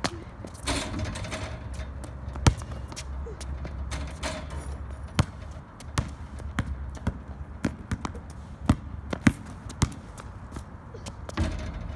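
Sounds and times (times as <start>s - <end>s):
basketball bouncing on concrete: 0.0s - 4.4s, 5.1s - 11.9s.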